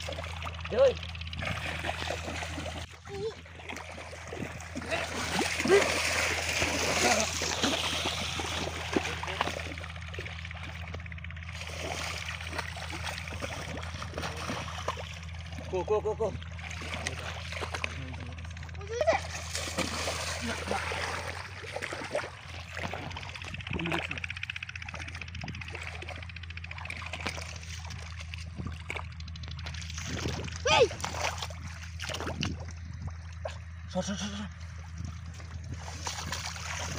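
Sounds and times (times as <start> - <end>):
muddy water sloshing and splashing: 0.0 - 36.9
steady low hum: 0.0 - 36.9.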